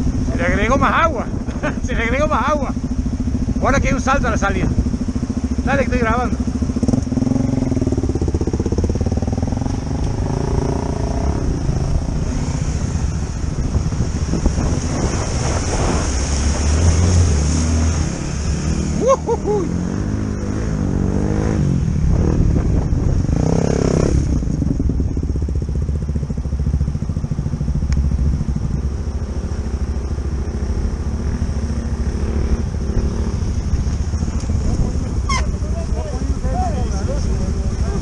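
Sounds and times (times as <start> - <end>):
dirt bike engine: 0.0 - 38.0
rushing water: 0.0 - 38.0.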